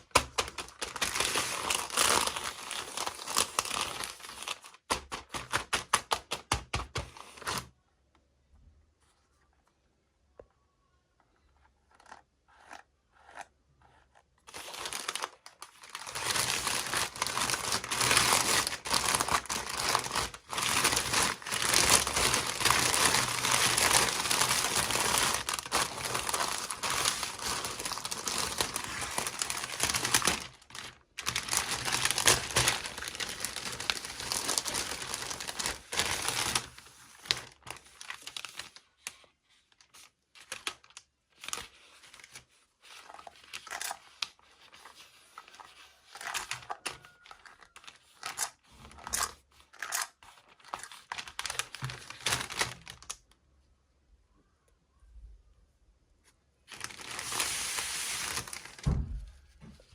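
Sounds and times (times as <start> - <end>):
packaging crinkling: 0.0 - 7.7, 14.4 - 53.3, 56.7 - 58.9.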